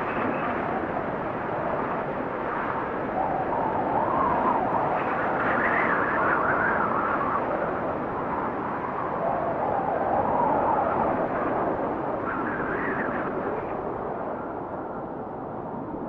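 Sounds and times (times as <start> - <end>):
faint wavering howl: 0.0 - 15.9
rushing wind: 0.0 - 16.0.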